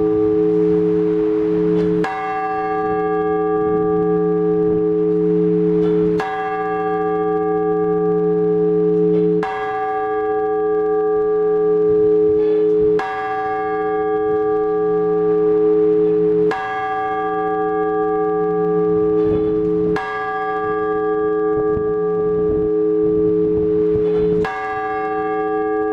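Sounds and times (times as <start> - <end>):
church bell strokes: 0.0 - 25.9.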